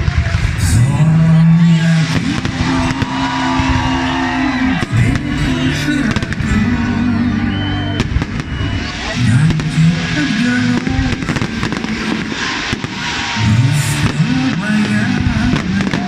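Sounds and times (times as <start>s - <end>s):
fireworks bursting: 0.0s - 16.0s
loud festive music: 0.0s - 16.0s.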